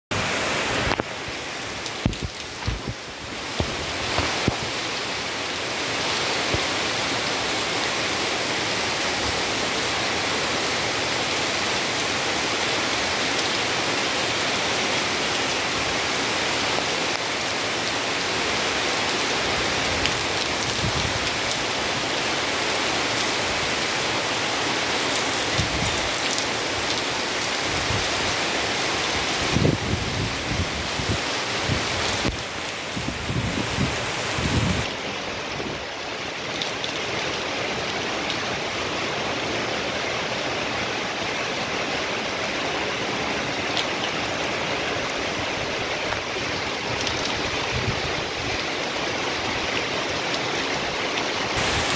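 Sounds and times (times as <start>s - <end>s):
heavy rain falling: 0.1s - 51.9s.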